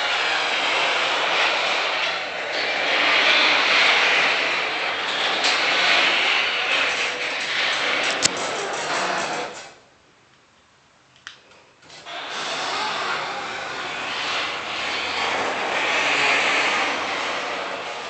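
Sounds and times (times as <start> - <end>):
garage door opener running: 0.0 - 9.8, 11.9 - 18.0.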